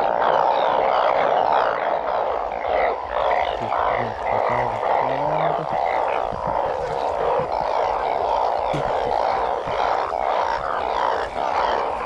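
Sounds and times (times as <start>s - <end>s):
frogs chorus: 0.0s - 12.0s
high frog chirps: 0.0s - 12.0s.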